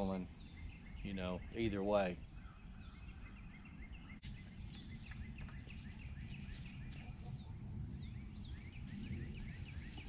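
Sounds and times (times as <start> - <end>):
low outdoor rumble: 0.0 - 10.0
wild birds chirping: 0.0 - 10.0.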